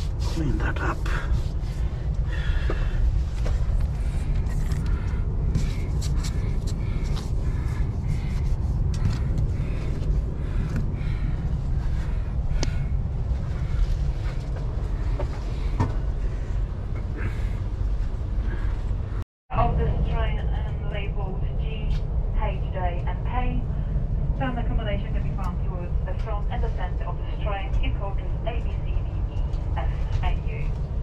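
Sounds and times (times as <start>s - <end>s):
train carriage rumble: 0.0s - 31.0s
faint passenger voices: 0.2s - 17.6s, 19.5s - 30.9s.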